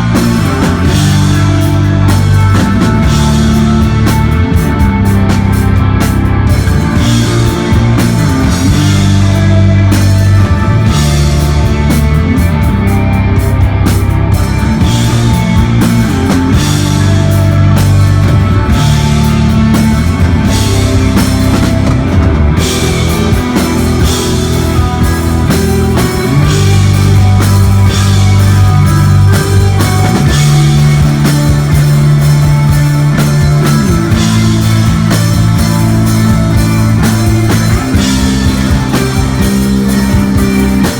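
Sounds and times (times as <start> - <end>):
bass guitar low notes: 0.0 - 40.9
electric guitar: 0.0 - 40.9.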